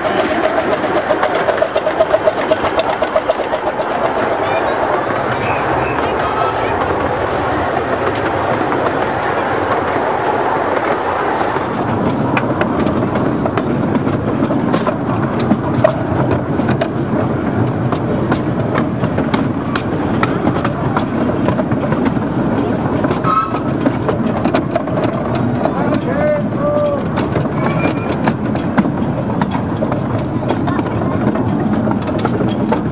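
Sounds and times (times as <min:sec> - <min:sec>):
miniature train rumbling: 0:00.0 - 0:32.9
wheels clacking over rail joints: 0:00.0 - 0:32.9.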